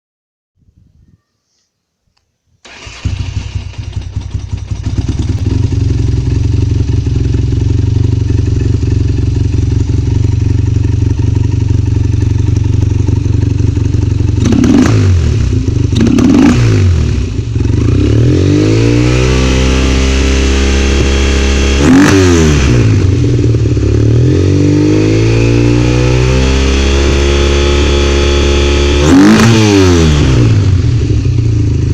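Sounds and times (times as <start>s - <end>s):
motorcycle engine idling and revving: 2.7s - 31.9s.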